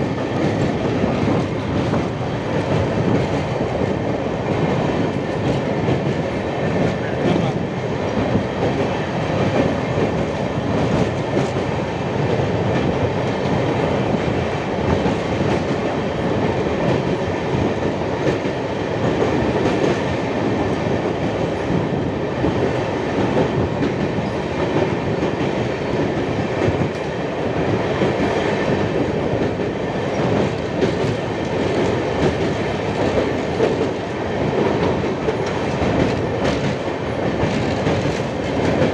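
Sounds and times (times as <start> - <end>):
train wheels on rails clattering: 0.0 - 38.9.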